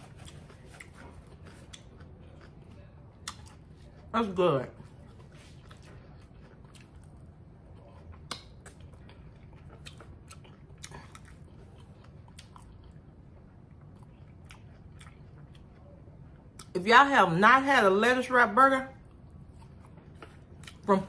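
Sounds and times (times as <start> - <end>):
person chewing food: 0.0 - 4.1, 4.7 - 16.7, 19.0 - 20.9.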